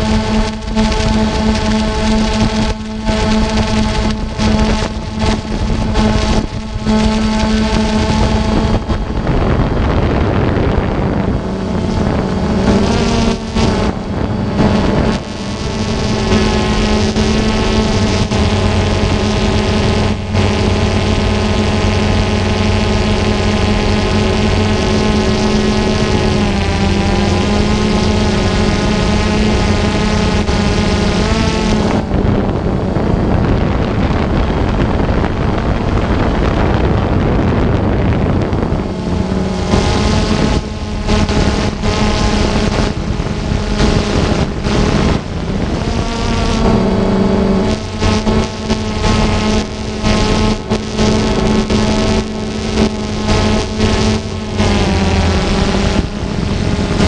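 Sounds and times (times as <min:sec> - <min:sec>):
drone propellers humming: 0:00.0 - 0:57.0
wind noise: 0:00.0 - 0:57.0.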